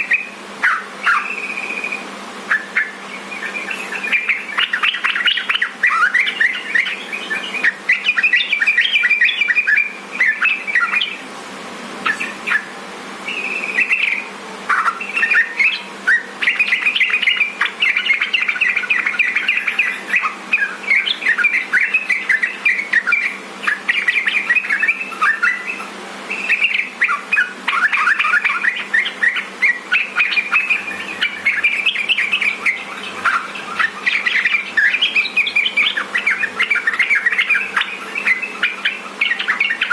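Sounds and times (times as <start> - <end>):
bulbul singing chirping phrases: 0.0 - 11.3, 12.0 - 39.9.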